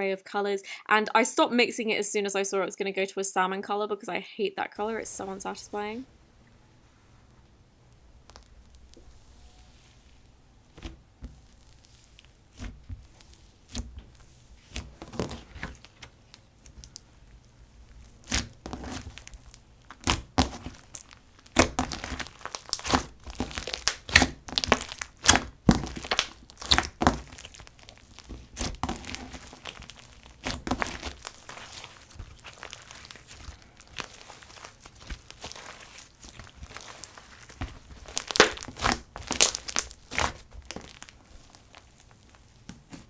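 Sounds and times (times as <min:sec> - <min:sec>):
slime crackling and popping: 0:07.9 - 0:43.0.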